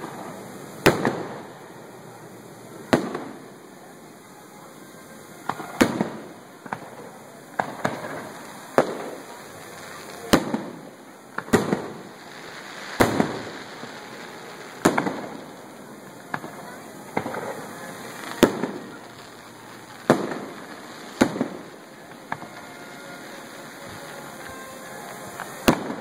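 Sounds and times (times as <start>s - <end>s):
fireworks bursting with echo: 0.0s - 26.0s.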